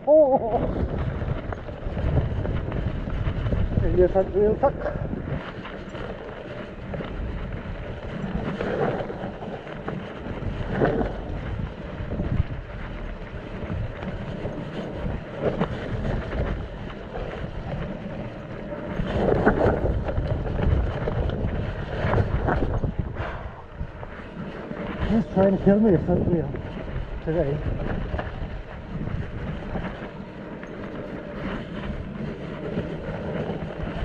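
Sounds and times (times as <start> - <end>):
bike jolts: 0.0 - 34.0
bike tyres on rough ground: 0.0 - 34.0
wind buffeting microphone: 0.0 - 34.0.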